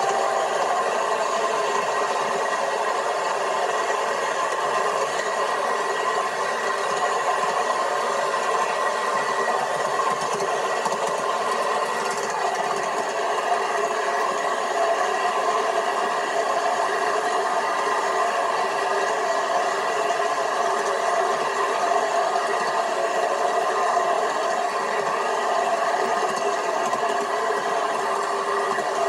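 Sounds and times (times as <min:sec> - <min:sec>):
model train rattling on track: 0:00.0 - 0:29.0.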